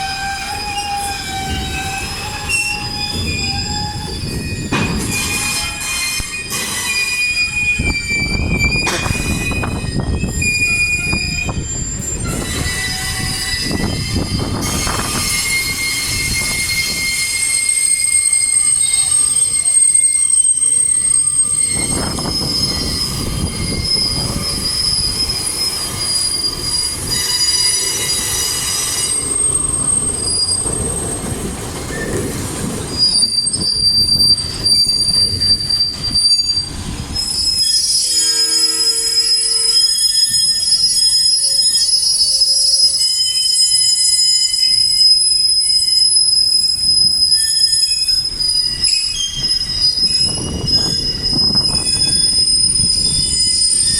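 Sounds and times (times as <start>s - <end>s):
train wheels squealing on rails: 0.0s - 53.9s.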